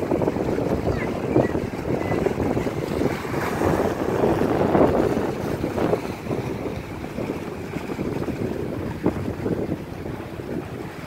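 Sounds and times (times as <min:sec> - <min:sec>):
waves splashing against seawall: 0:00.0 - 0:11.0
wind blowing across microphone: 0:00.0 - 0:11.0.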